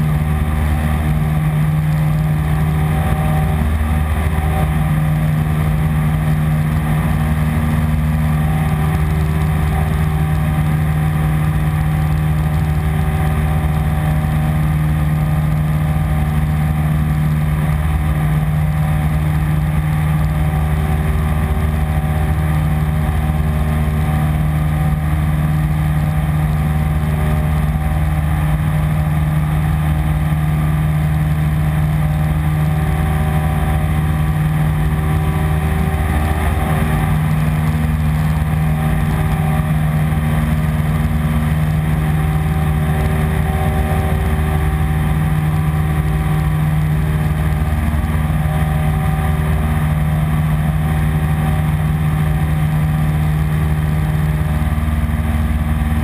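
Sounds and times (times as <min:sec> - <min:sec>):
airplane engine drone in cabin: 0:00.0 - 0:56.0.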